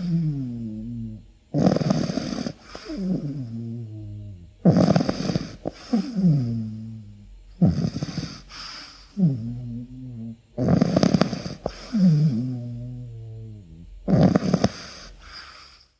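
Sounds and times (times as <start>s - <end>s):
rattling snore: 0.0s - 15.9s.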